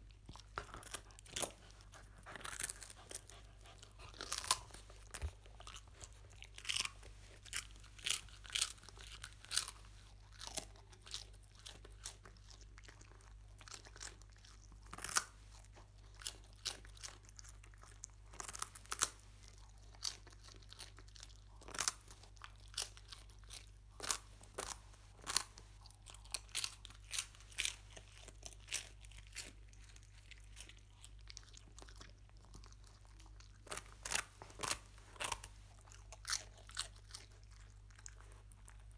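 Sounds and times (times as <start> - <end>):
dog chewing crunchy food: 0.0 - 38.9.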